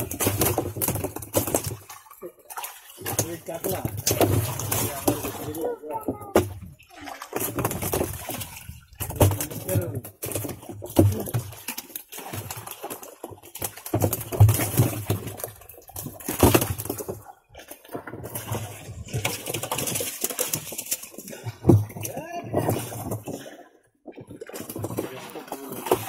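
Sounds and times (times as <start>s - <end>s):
fish flapping and splashing in water: 0.0s - 26.0s.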